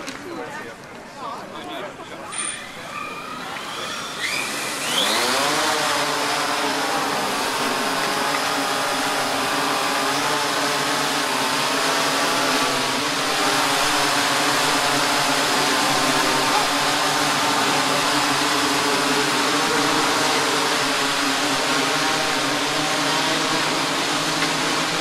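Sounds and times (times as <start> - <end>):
drone propellers buzzing: 2.4 - 25.0.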